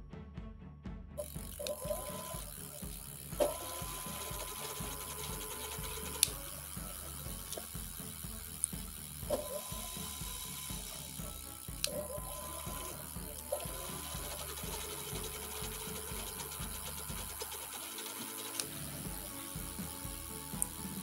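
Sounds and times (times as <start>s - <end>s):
electric motor hum and whine: 1.2s - 21.0s.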